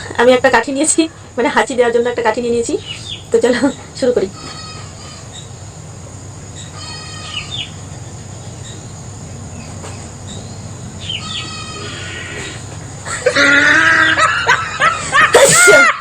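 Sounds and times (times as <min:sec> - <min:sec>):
birds chirping: 0:00.0 - 0:15.6
steady low hum: 0:00.0 - 0:16.0.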